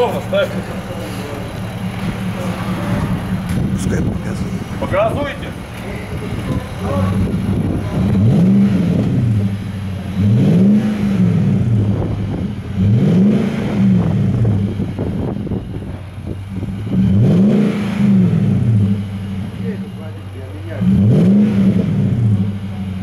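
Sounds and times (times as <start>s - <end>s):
engine revving from idle: 0.0s - 23.0s.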